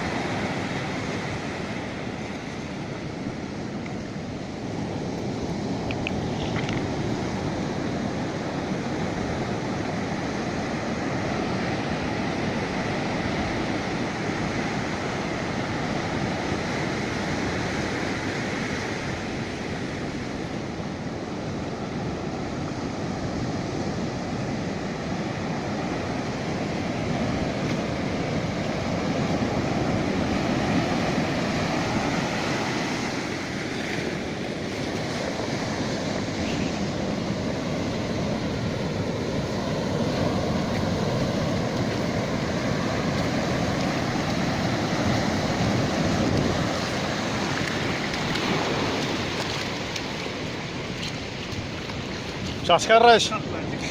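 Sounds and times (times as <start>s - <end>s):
surf breaking on beach: 0.0s - 53.9s
wind buffeting microphone: 0.0s - 53.9s.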